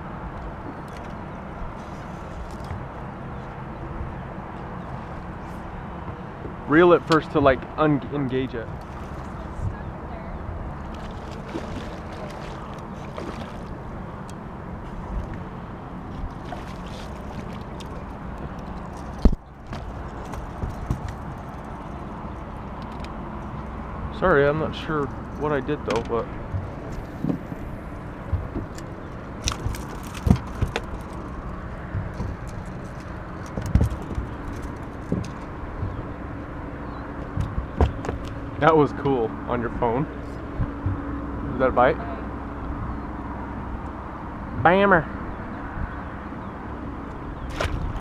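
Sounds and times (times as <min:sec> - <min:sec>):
steady low hum: 0:00.0 - 0:48.0
water around boat: 0:00.0 - 0:48.0
wind: 0:00.0 - 0:48.0.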